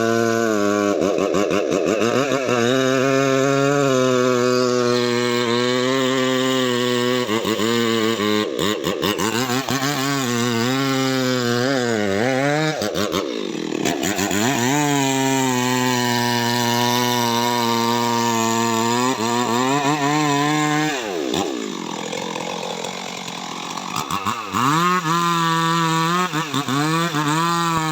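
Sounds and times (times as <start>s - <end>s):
chainsaw cutting wood: 0.0s - 27.9s.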